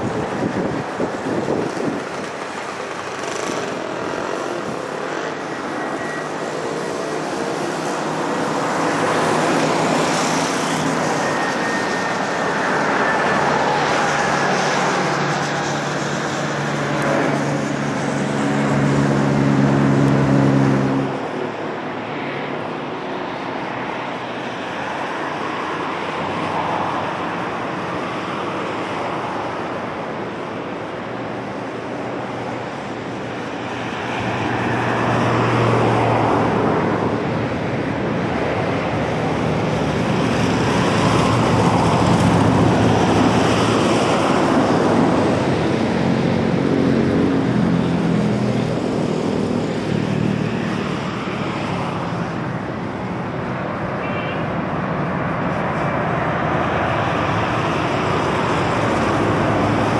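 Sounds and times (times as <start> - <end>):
jet engines passing overhead: 0.0 - 59.9.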